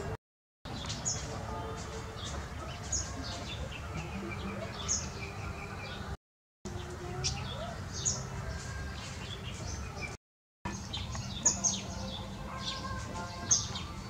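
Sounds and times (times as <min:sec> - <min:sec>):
songbird chirping: 0:00.7 - 0:14.0.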